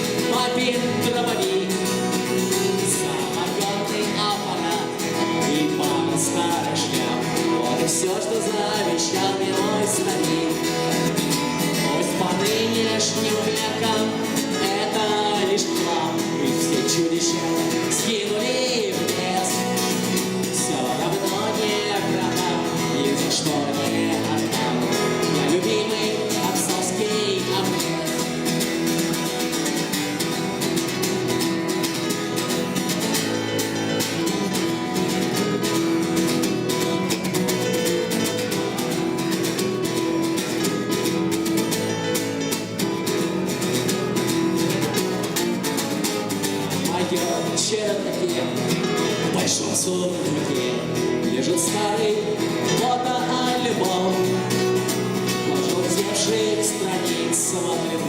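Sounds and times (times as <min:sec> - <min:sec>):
band playing a song: 0:00.0 - 0:58.0
guitar chords: 0:00.0 - 0:58.0.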